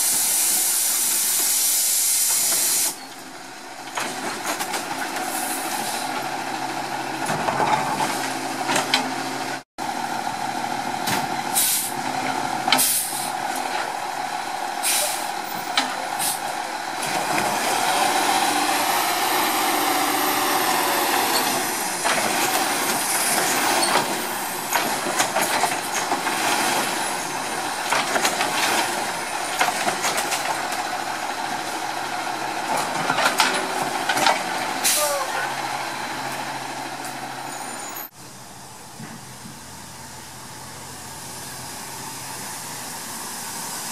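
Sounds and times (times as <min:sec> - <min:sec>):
mechanical arm and packer working: 0:02.3 - 0:39.8
diesel truck engine running: 0:02.4 - 0:43.9.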